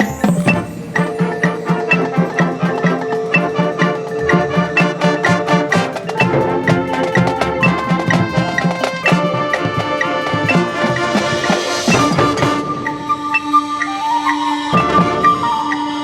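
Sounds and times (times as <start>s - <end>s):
marching band playing: 0.0s - 13.2s
cymbal swell: 0.0s - 13.8s.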